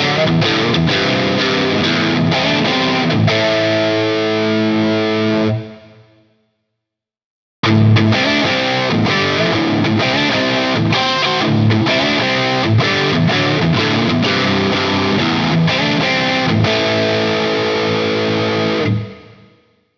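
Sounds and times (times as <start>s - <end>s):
distorted electric guitar: 0.0s - 6.2s, 7.6s - 19.7s.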